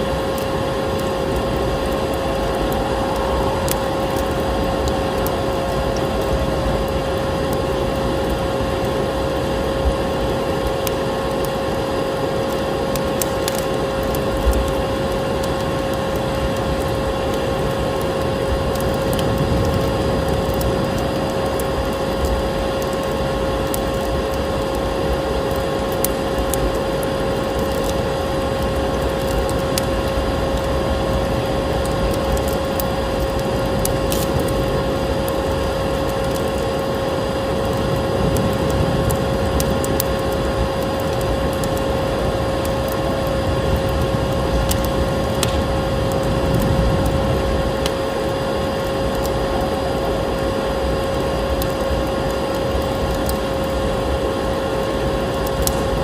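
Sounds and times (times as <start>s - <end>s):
vacuum cleaner motor whine: 0.0s - 56.0s
wood fire crackling and popping: 0.0s - 56.0s.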